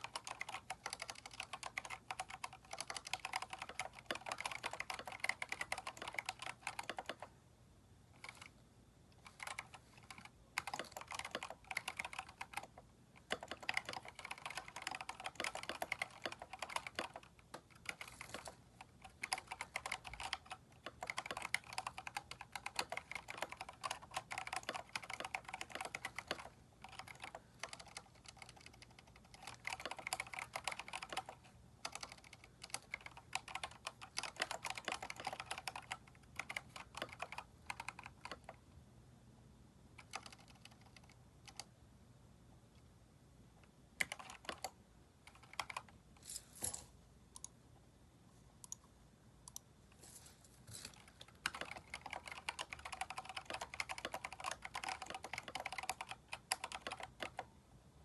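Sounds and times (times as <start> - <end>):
mechanical keyboard typing: 0.0 - 7.4, 8.2 - 8.6, 9.2 - 38.6, 40.0 - 41.7, 44.0 - 46.0, 51.0 - 57.5.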